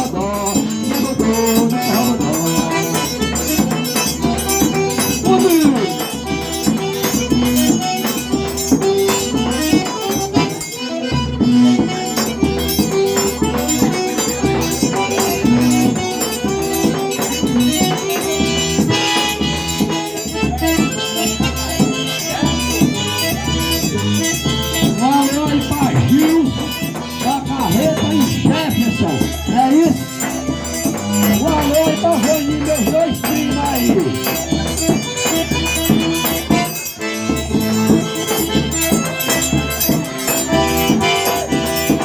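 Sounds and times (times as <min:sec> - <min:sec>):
button accordion playing: 0:00.0 - 0:42.0.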